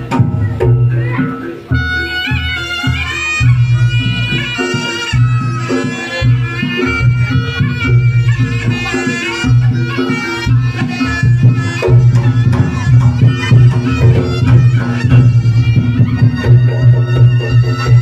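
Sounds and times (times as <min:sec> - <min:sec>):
drums: 0:00.0 - 0:18.0
shawm melody: 0:00.0 - 0:18.0.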